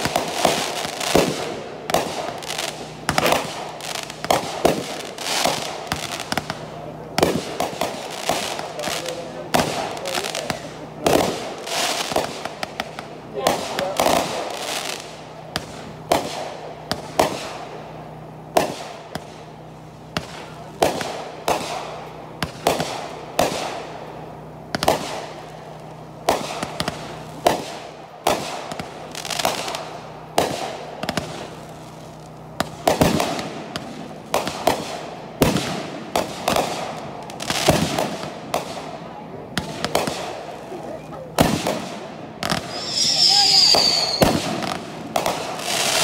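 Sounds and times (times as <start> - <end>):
fireworks bursting with bangs: 0.0 - 46.0.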